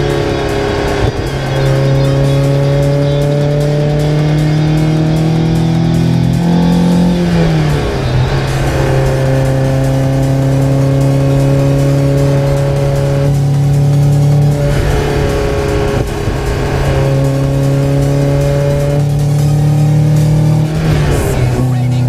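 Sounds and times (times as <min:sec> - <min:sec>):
four-cylinder engine running: 0:00.0 - 0:22.0.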